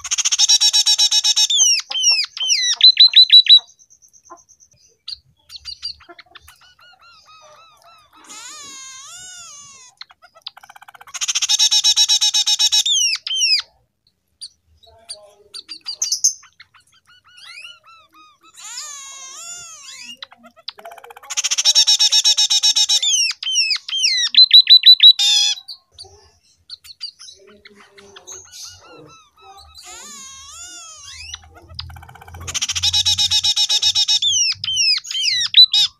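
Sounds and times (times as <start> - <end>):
bird singing trilled song: 0.0 - 35.9.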